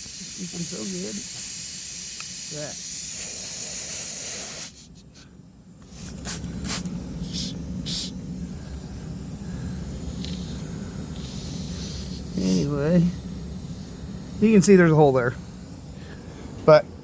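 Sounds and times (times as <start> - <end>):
air hissing from tire: 0.0 - 16.7.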